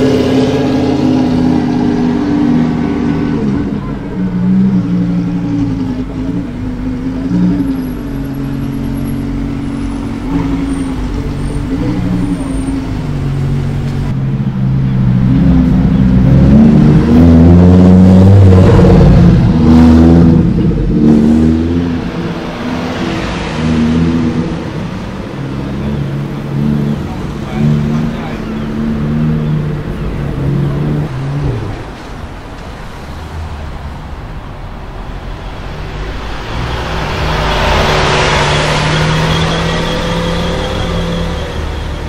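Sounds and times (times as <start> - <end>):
sports car engines revving past: 0.0 - 34.5, 35.1 - 42.0.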